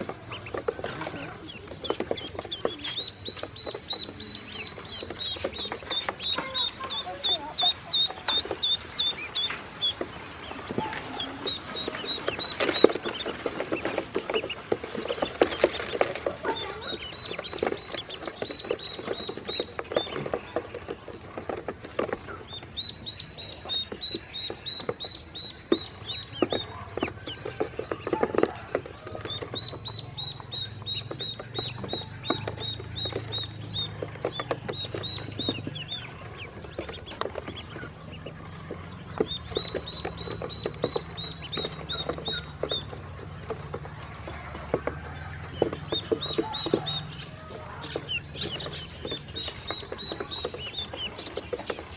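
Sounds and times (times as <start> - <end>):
bills pecking on plastic: 0.0 - 51.9
ducklings peeping: 0.0 - 51.9.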